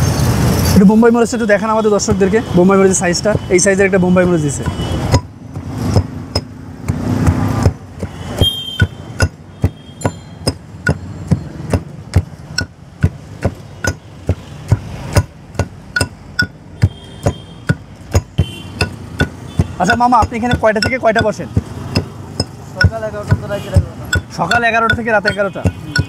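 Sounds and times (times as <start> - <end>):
pestle pounding in a mortar: 4.5 - 26.0.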